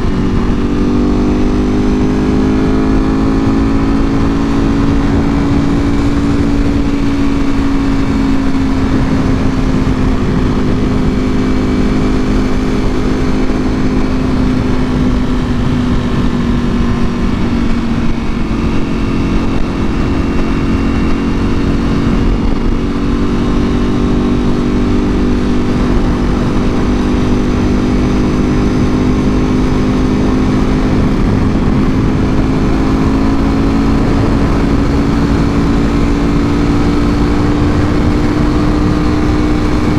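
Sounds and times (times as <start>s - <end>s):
constant low rush: 0.0s - 39.9s
motorcycle engine cruising: 0.0s - 39.9s.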